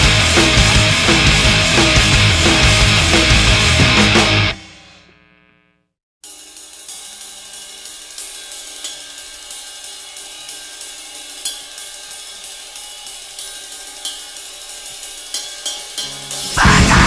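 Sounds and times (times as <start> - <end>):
drums on hi-hat and cymbals: 0.0 - 5.0, 6.2 - 17.0.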